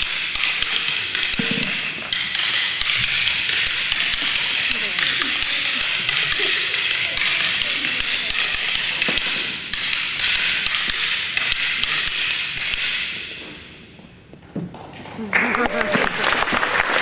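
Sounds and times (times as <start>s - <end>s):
wooden sticks clacking: 0.0s - 14.7s.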